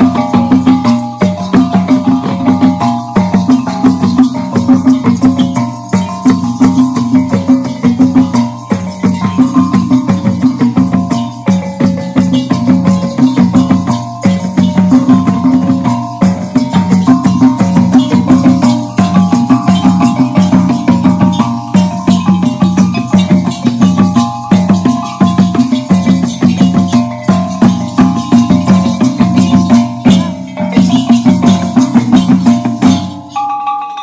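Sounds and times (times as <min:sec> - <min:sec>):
loud music with fast percussion: 0:00.0 - 0:34.0.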